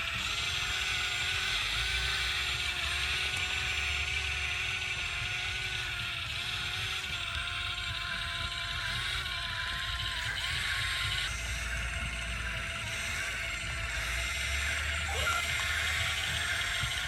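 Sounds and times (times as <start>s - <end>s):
excavator engine rumble: 0.0s - 17.0s
wavering whine: 0.0s - 17.0s.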